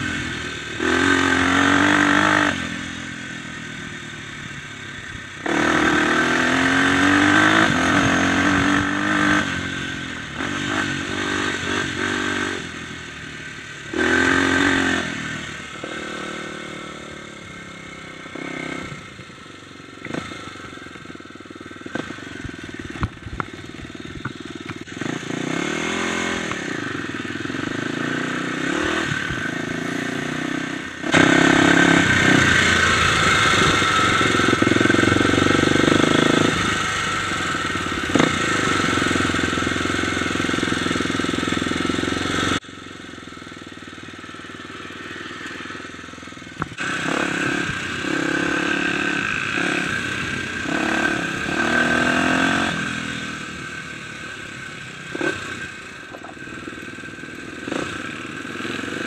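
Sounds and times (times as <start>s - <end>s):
dirt bike engine revving: 0.0s - 19.2s, 20.0s - 42.6s, 43.5s - 59.0s.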